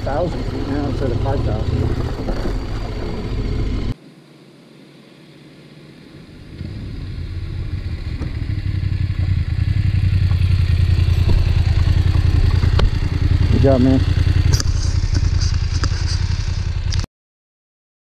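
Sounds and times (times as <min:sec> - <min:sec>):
motorcycle engine approaching: 0:00.0 - 0:17.1.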